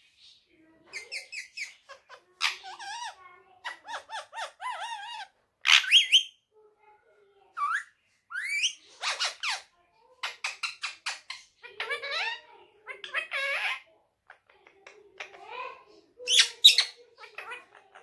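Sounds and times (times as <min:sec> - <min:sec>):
parrot speech-like chatter: 0:00.5 - 0:18.0.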